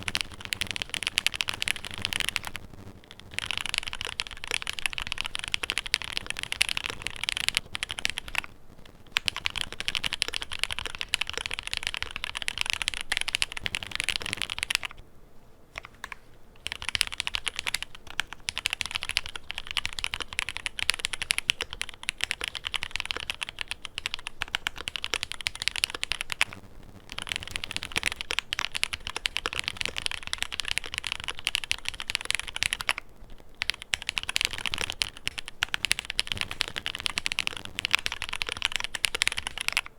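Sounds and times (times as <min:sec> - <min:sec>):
mechanical keyboard typing: 0:00.0 - 0:15.0, 0:15.7 - 0:39.9.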